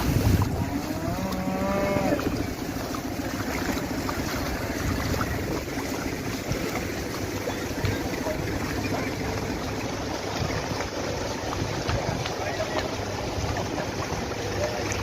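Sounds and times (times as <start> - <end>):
storm wind and water rushing: 0.0 - 15.0
wind buffeting microphone: 0.0 - 15.0.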